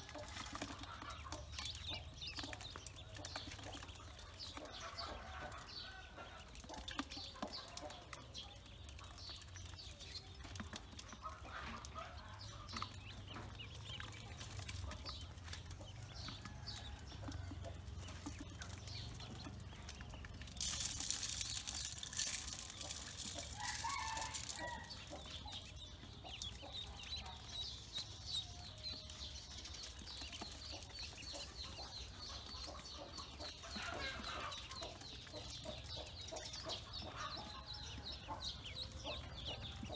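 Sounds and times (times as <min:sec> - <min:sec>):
ducklings peeping and chirping: 0:00.0 - 0:39.9.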